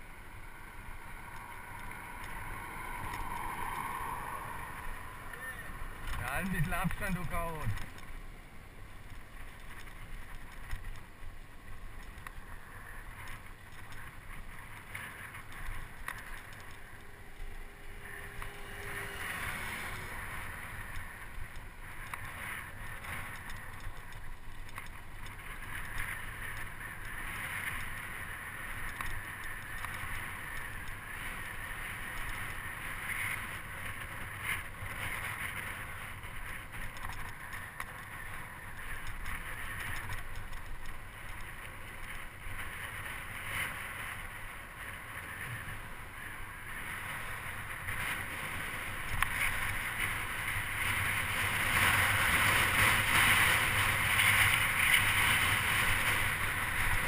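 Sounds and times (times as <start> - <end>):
bicycle tyre rumble on asphalt: 0.0 - 57.0
wind rushing over microphone: 0.0 - 57.0.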